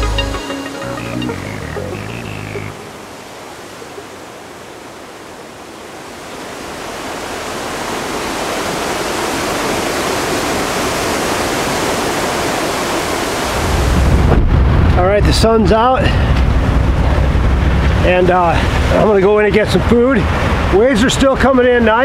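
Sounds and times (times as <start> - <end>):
lake waves washing onto rocks: 2.8 - 22.0.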